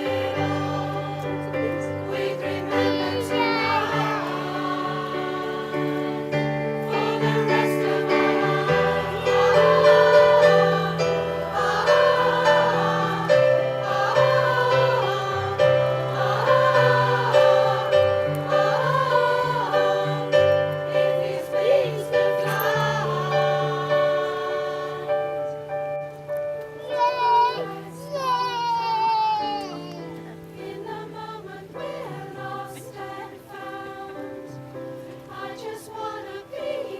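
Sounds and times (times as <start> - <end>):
choir singing in harmony: 0.0 - 28.6, 29.4 - 36.9.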